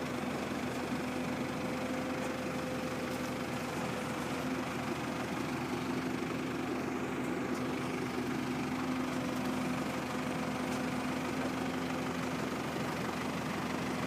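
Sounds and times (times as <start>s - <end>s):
harvester engine and machinery humming: 0.0s - 14.0s.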